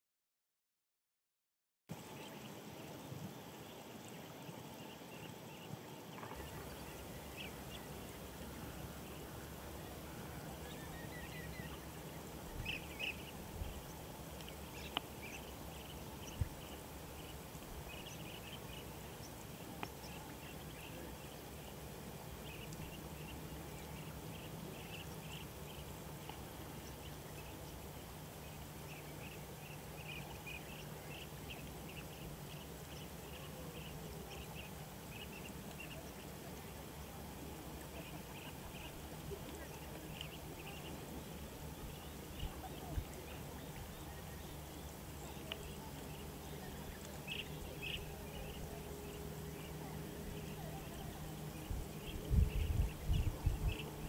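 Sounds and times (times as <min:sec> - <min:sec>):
steady hiss: 0:01.9 - 0:54.0
birds chirping: 0:02.0 - 0:54.0.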